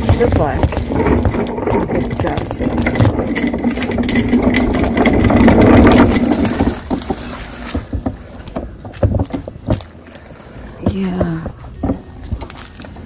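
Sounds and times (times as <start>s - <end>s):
lawn mower rattling on concrete: 0.0s - 13.0s
mower rustling on grass: 0.0s - 13.0s.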